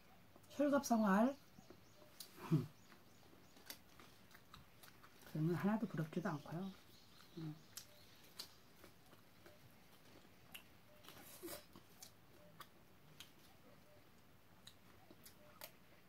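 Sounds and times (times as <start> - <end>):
chewing greens: 1.6 - 16.0.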